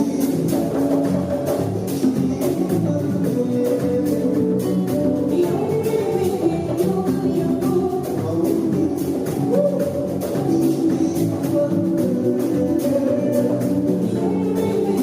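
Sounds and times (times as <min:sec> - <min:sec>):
song with guitar and percussion: 0:00.0 - 0:15.0.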